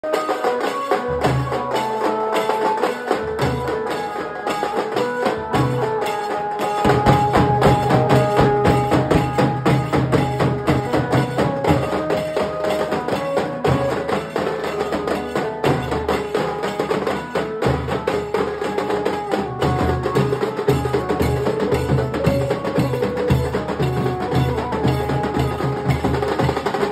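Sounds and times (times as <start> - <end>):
held melody line: 0.0 - 26.9
barrel drums beaten with sticks: 1.1 - 26.9.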